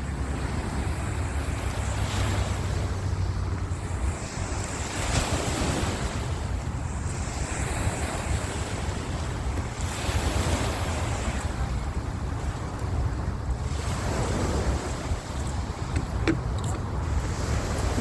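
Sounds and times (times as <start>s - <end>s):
ocean surf washing in: 0.0s - 18.0s
wind buffeting microphone: 0.0s - 18.0s.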